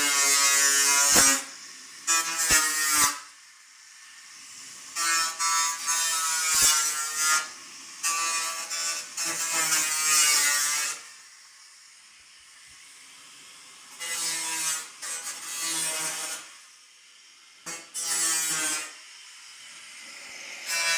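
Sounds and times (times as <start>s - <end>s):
angle grinder cutting metal: 0.0s - 11.7s, 12.8s - 20.9s.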